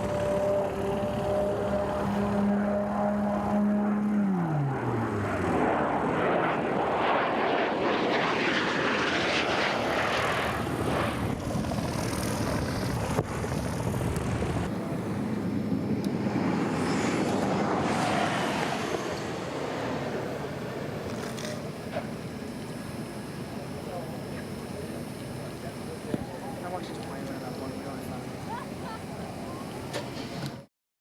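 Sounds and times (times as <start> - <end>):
propeller airplane passing: 0.0 - 30.5.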